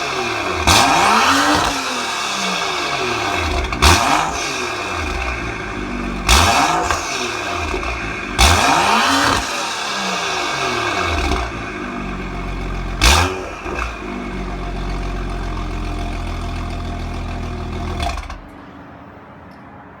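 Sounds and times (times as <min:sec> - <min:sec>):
car engine idling: 0:00.0 - 0:18.6
car engine revving: 0:00.0 - 0:18.6
exhaust crackle: 0:00.0 - 0:18.6.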